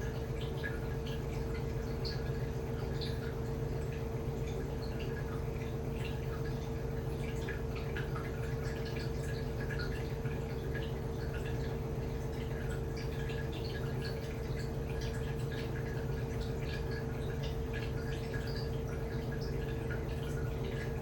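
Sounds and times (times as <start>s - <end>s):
washing machine hum: 0.0s - 21.0s
water splashing in washing machine drum: 0.0s - 21.0s.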